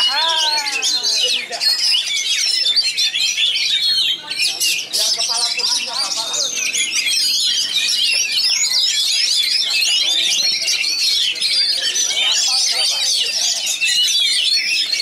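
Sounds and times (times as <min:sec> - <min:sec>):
magpie-robin singing: 0:00.0 - 0:15.0
other songbirds singing: 0:00.0 - 0:15.0.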